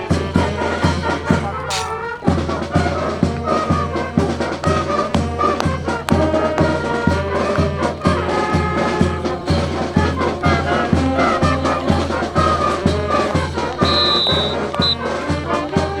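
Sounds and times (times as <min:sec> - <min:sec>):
upbeat brass band music: 0:00.0 - 0:16.0.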